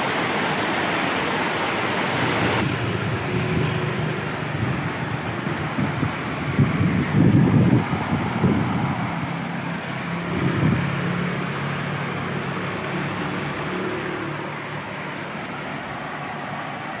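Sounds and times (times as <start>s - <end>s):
heavy rain falling: 0.0s - 17.0s
low engine hum: 0.0s - 17.0s.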